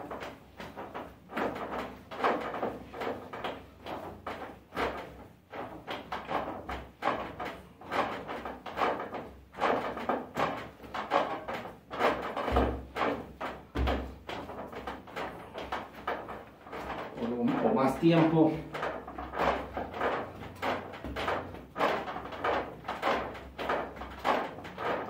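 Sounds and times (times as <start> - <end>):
dough slapping and pressing: 0.0 - 25.0
heavy thumps: 0.0 - 25.0.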